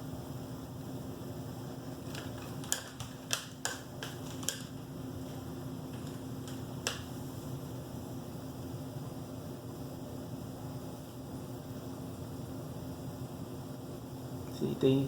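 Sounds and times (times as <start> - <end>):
fan-like hum: 0.0 - 15.0.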